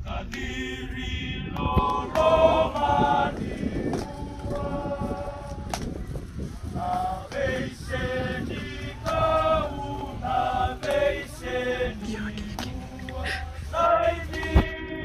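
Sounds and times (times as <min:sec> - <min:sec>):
men singing in harmony: 0:00.0 - 0:06.0, 0:06.8 - 0:15.0.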